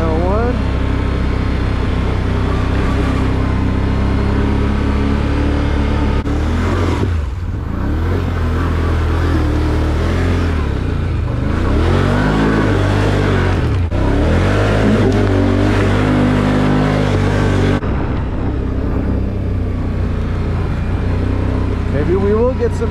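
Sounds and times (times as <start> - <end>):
off-road vehicle engine running: 0.0 - 22.9.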